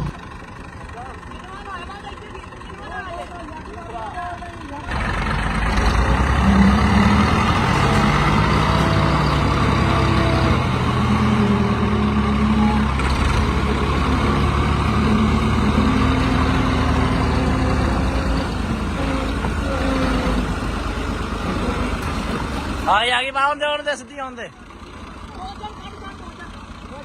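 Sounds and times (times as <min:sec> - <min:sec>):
tractor engine under load: 0:00.0 - 0:27.0.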